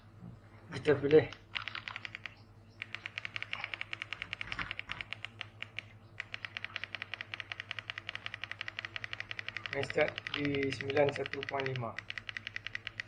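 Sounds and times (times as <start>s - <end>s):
rapid meter clicking: 1.0s - 13.0s.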